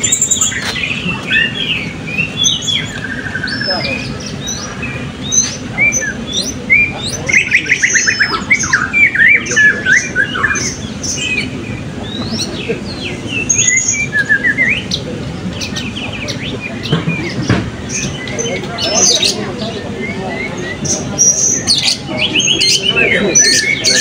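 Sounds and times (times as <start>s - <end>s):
parrots chirping and whistling: 0.0s - 24.0s.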